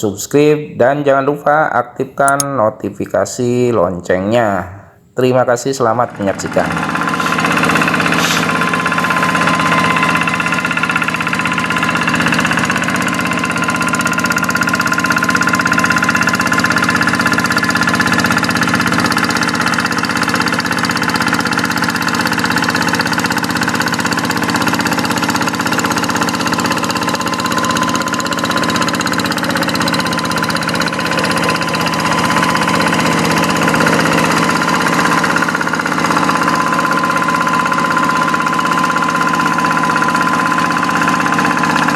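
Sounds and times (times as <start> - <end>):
diesel engine running: 5.8 - 41.9.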